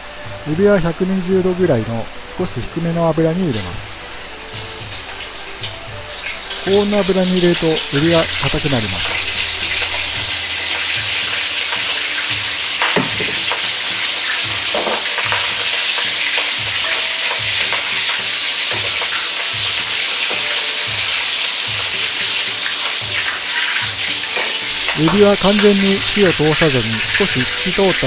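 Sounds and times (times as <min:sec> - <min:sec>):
shrimp sizzling in hot oil: 0:00.0 - 0:28.0.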